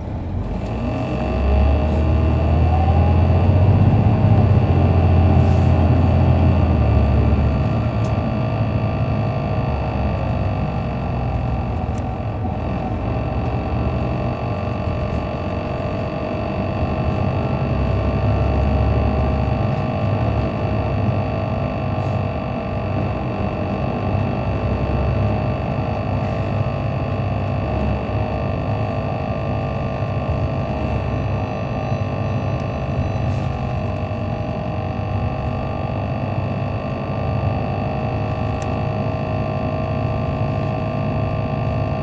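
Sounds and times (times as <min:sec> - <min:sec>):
diesel engine drone: 0:00.0 - 0:42.0
transmission whine: 0:00.0 - 0:42.0.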